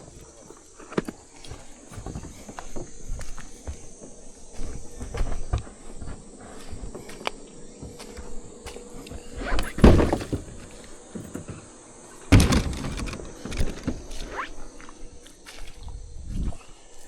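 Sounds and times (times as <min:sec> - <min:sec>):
gear bumping: 0:00.0 - 0:15.4
scuffing footsteps: 0:00.0 - 0:17.0.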